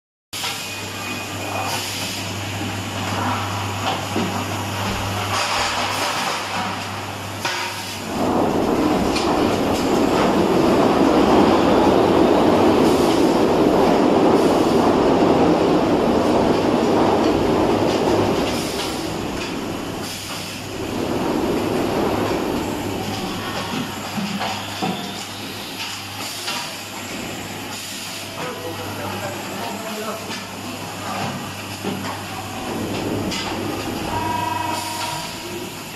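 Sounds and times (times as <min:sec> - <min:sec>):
rushing rattle of machinery: 0:03.7 - 0:28.6, 0:29.5 - 0:35.9.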